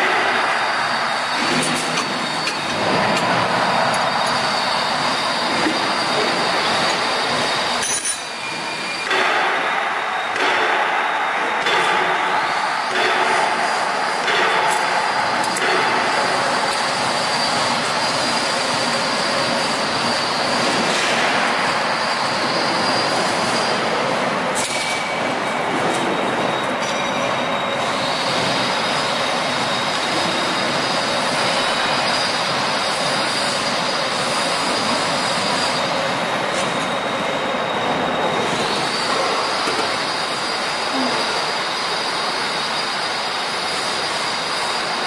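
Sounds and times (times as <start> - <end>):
factory machinery din: 0.0 - 45.0.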